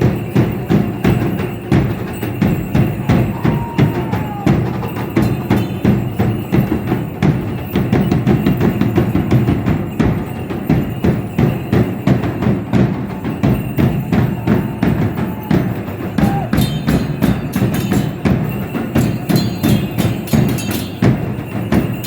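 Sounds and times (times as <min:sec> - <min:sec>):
drums beating dance rhythm: 0:00.0 - 0:22.0.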